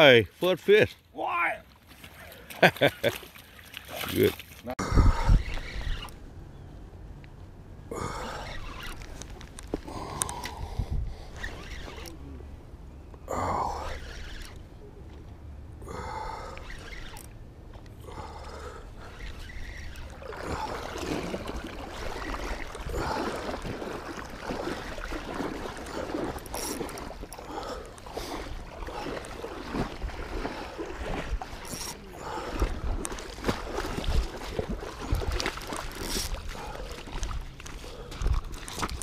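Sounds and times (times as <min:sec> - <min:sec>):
river water splashing: 0:01.6 - 0:06.5, 0:07.6 - 0:39.0.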